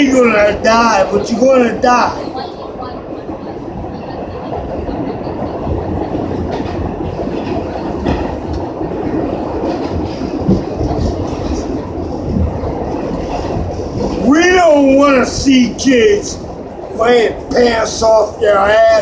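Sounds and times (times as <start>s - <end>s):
subway car rumbling: 0.0s - 19.0s.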